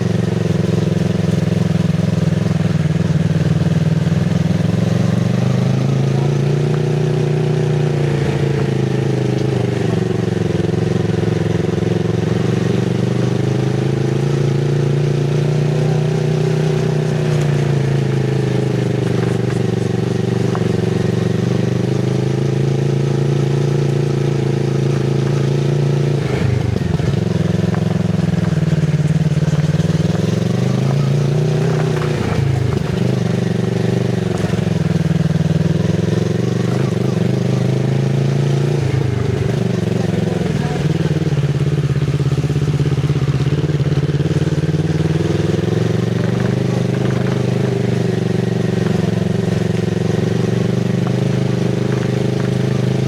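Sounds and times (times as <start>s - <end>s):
motorcycle engine at low revs: 0.0s - 53.0s.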